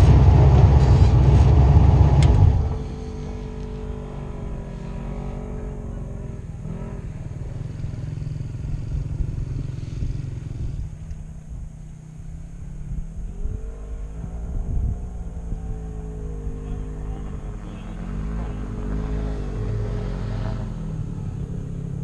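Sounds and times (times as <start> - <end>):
engine revving: 0.0 - 11.6, 12.2 - 22.0
dune buggy engine idling: 0.0 - 22.0.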